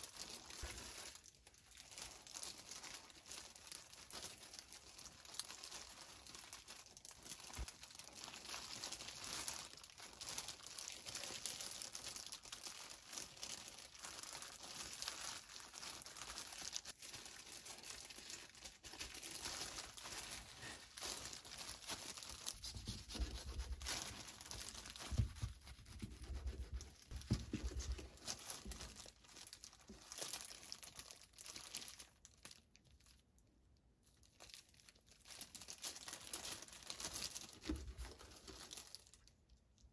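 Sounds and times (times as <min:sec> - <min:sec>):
plastic gloves crinkling: 0:00.0 - 0:39.9.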